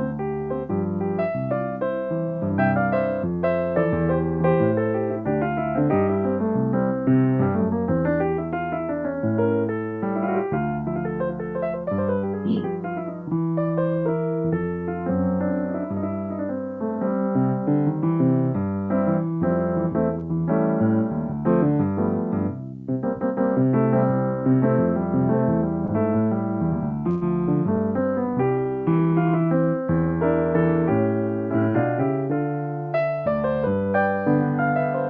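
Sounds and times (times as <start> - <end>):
piano melody over chords: 0.0 - 35.0.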